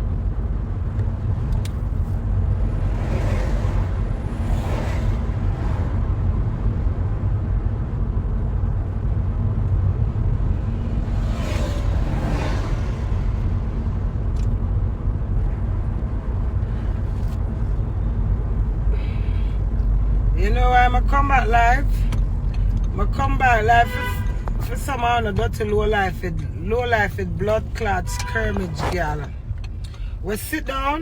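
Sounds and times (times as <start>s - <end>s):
road and engine rumble inside car: 0.0s - 31.0s.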